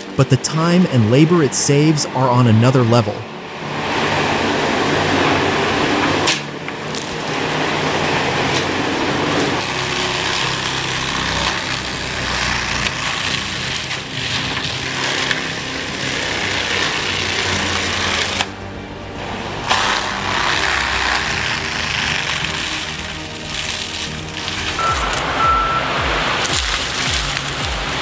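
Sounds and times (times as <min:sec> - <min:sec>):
heavy machinery engine: 0:00.0 - 0:28.0
rough cutting noise: 0:00.0 - 0:28.0.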